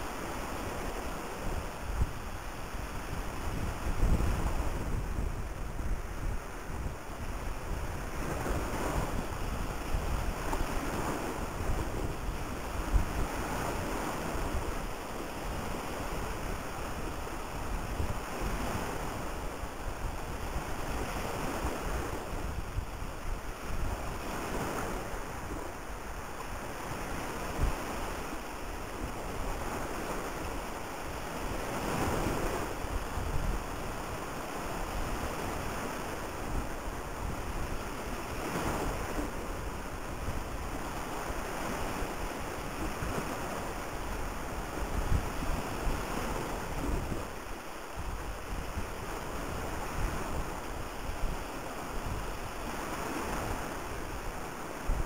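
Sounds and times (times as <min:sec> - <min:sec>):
sea water rushing: 0:00.0 - 0:55.0
wind buffeting microphone: 0:00.0 - 0:55.0.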